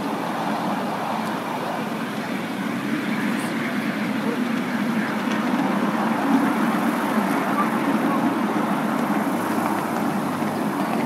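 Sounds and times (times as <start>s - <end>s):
miniature train rumbling on rails: 0.0s - 11.0s.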